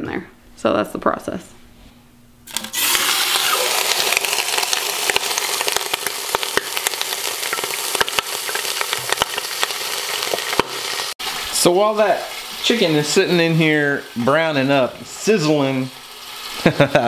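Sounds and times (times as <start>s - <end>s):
chicken sizzling in hot oil: 2.5s - 17.0s.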